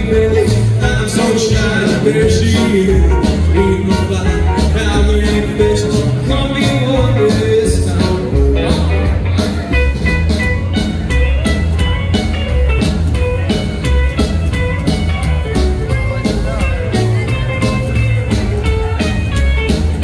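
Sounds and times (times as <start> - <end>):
acoustic and electric guitars: 0.0 - 20.0
drum kit beat: 0.0 - 20.0
slapped upright bass: 0.0 - 20.0
steel guitar: 0.0 - 20.0.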